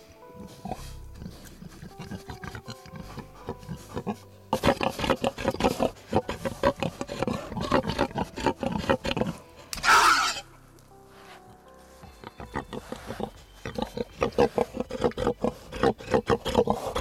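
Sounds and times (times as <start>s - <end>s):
pigs grunting: 0.3s - 10.5s, 12.0s - 17.0s
pig snorting: 0.4s - 10.4s, 11.2s - 17.0s.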